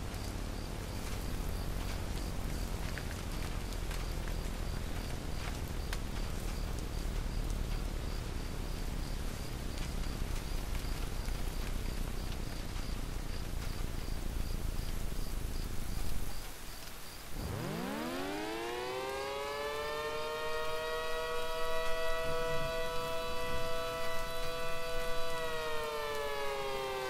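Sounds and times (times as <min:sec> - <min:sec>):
crickets chirping: 0:00.0 - 0:27.0
low background noise: 0:00.0 - 0:27.0.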